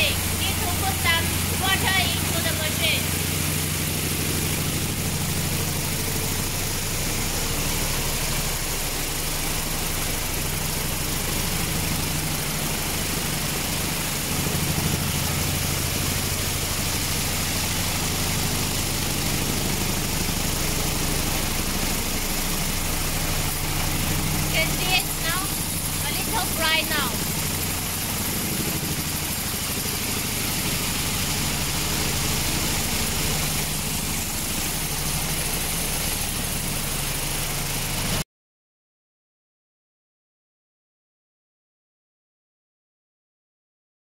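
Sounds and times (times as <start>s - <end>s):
polishing media churning hiss: 0.0s - 38.1s
motor hum: 0.0s - 38.2s.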